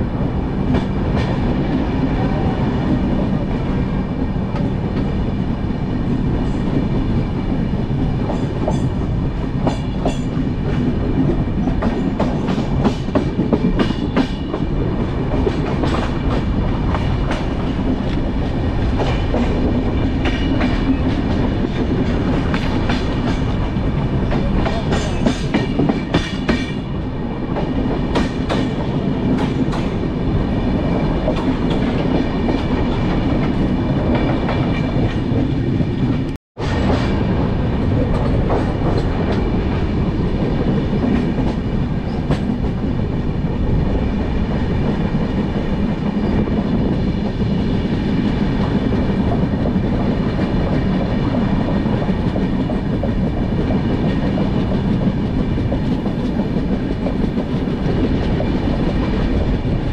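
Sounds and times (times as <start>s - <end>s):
train rolling rumble: 0.0s - 59.9s.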